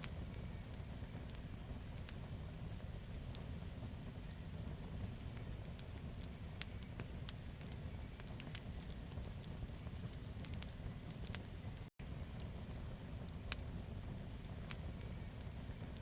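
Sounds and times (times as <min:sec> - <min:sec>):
campfire rumbling: 0:00.0 - 0:16.0
wood crackling and popping: 0:00.0 - 0:16.0.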